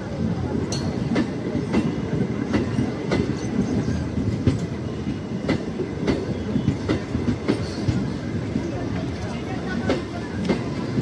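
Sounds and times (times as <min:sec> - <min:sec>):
train rumble: 0:00.0 - 0:11.0
train wheels clicking over rail joints: 0:00.5 - 0:11.0.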